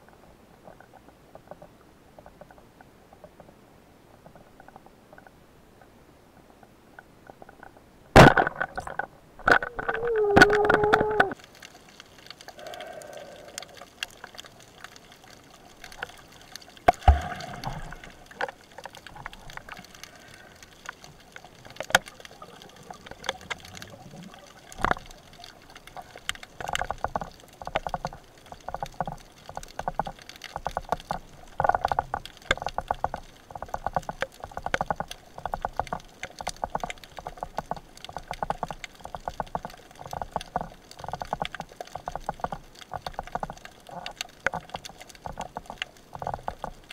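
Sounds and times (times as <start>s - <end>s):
sharp clicks underwater: 4.2s - 46.9s.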